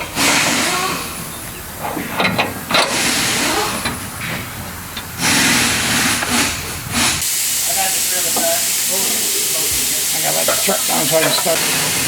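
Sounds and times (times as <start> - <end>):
loud air hissing: 0.0 - 1.4, 2.9 - 12.0.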